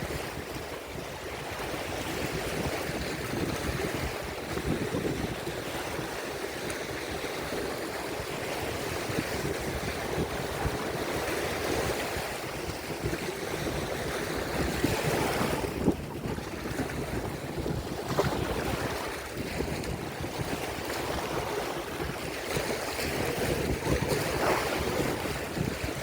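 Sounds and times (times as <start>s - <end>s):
waves breaking on shore: 0.0s - 26.0s
wind buffeting microphone: 0.0s - 26.0s.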